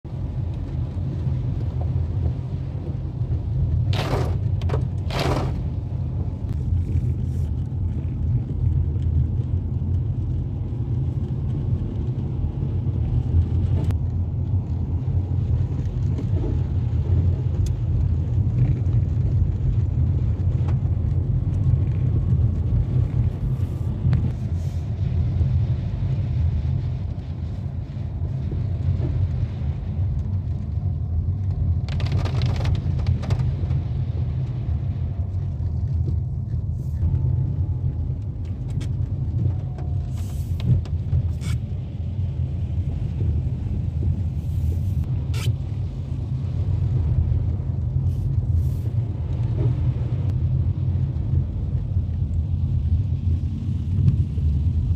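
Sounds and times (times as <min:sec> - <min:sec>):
car driving on wet road: 0:00.1 - 0:54.9.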